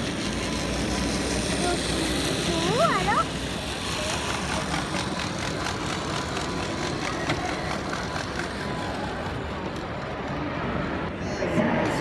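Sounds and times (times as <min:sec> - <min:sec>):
model train wheels clicking: 0:00.0 - 0:11.1
hall background noise: 0:00.0 - 0:12.0.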